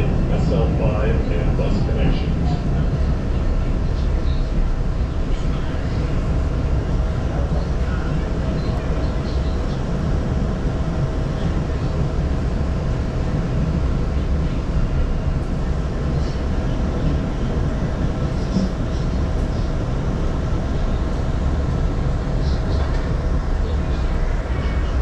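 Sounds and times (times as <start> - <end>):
constant mid-pitched hum: 0.0 - 25.0
subway train wheels rumbling: 0.0 - 25.0.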